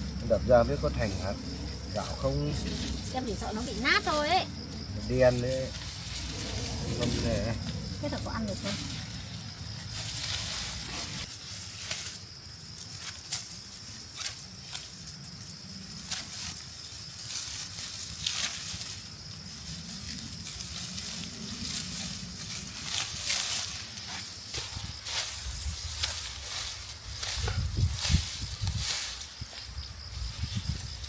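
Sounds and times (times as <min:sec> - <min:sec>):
rice plants rustling and snapping: 0:05.1 - 0:31.0.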